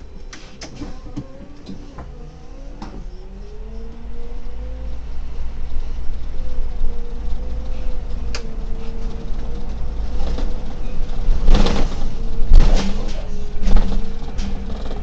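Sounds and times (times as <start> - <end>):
bus engine rumble: 0.0 - 15.0
bus whine slowing: 0.0 - 15.0.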